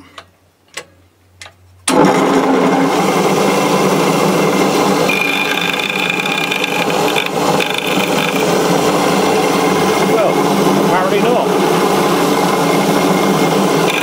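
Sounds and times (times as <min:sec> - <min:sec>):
bench grinder running: 0:01.9 - 0:14.0
metal grinding whine: 0:02.6 - 0:14.0.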